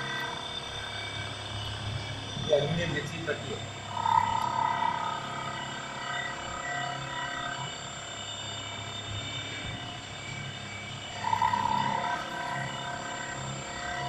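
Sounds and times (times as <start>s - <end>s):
drilling machine whine: 0.0s - 14.0s.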